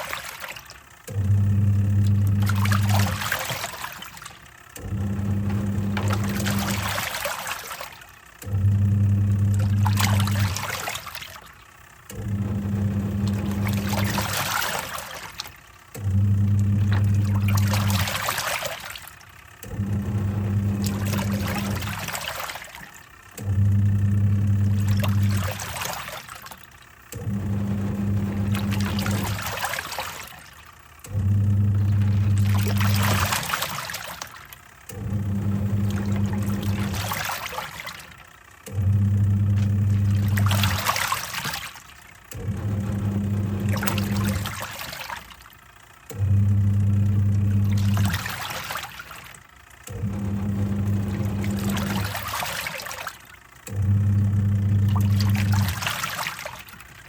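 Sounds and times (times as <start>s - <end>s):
laundry water churning and splashing: 0.0s - 57.0s
washing machine motor humming: 0.0s - 57.0s.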